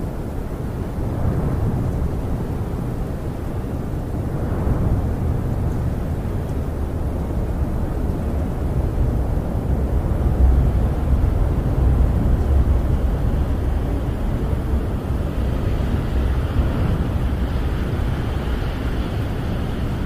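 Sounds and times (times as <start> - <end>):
wind buffeting a camper: 0.0 - 20.0.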